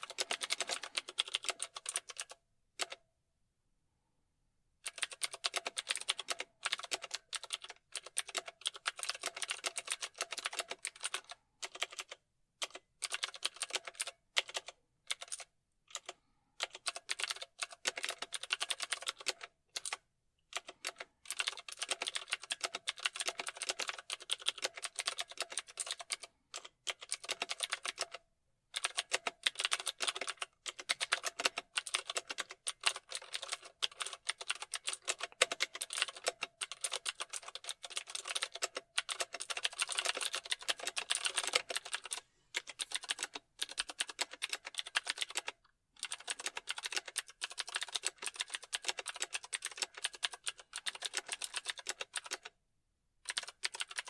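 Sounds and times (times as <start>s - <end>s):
fast typing on keyboard: 0.0s - 3.0s, 4.8s - 52.6s, 53.2s - 54.0s.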